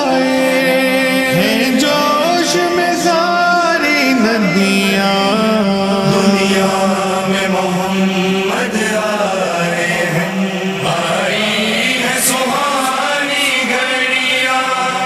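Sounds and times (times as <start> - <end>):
man chanting devotional poem: 0.0 - 15.0.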